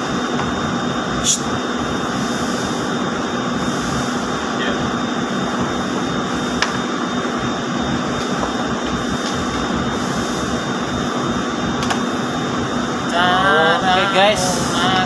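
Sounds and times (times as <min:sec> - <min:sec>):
textile machinery hum and whine: 0:00.0 - 0:15.0.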